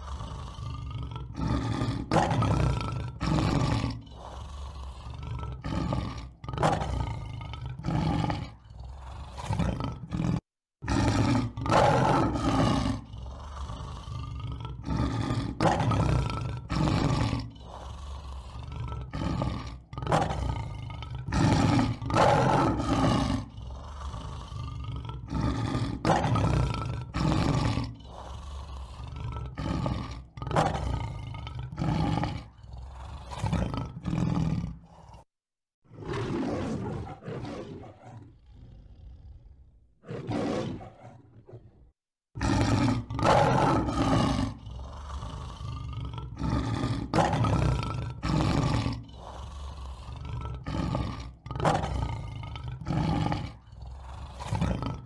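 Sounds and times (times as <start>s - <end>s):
lion roaring: 0.0s - 35.3s, 35.9s - 55.0s.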